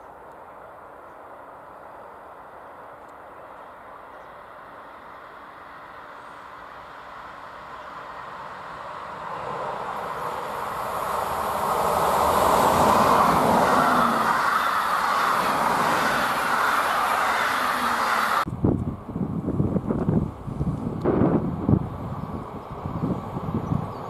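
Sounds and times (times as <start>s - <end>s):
train approaching: 0.0s - 24.0s.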